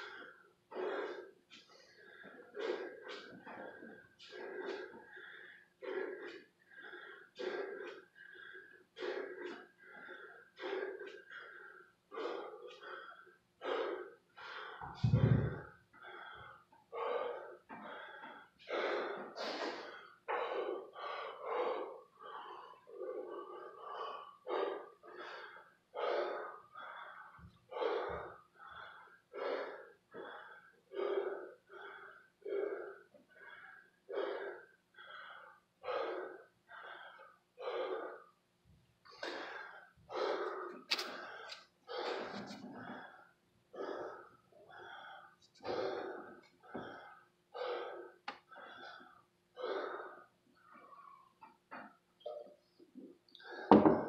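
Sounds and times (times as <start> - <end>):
man breathing hard: 0.0 - 54.0.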